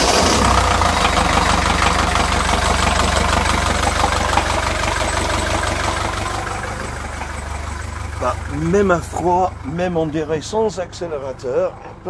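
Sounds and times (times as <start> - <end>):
marine diesel engine idling: 0.0 - 12.0.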